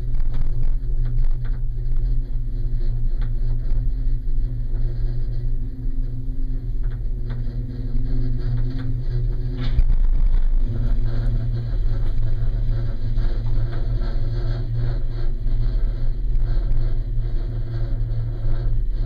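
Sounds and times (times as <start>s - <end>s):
gondola cabin drone: 0.0s - 19.0s.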